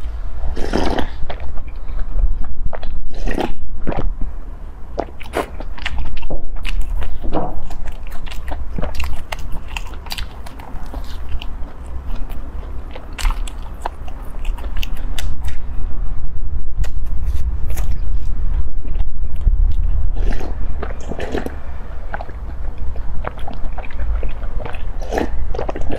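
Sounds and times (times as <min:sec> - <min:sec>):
chewing bread: 0:00.0 - 0:04.2, 0:04.9 - 0:15.8, 0:16.8 - 0:25.9
steady low hum: 0:00.0 - 0:25.9.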